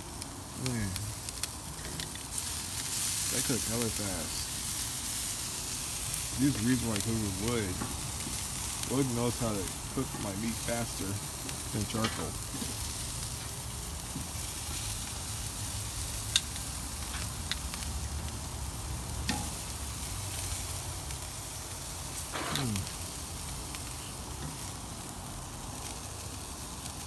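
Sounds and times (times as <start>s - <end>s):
meat sizzling on grill: 0.0s - 27.0s.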